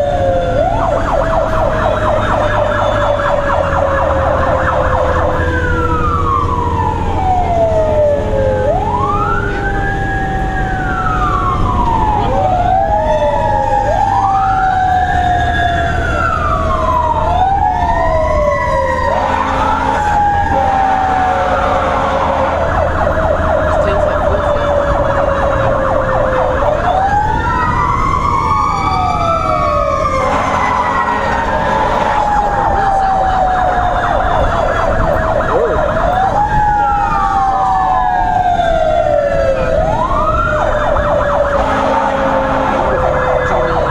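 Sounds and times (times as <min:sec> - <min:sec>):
engine rumble: 0:00.0 - 0:43.9
fire engine siren yelp and wail: 0:00.0 - 0:43.9
lower siren tone sliding down: 0:00.0 - 0:43.9.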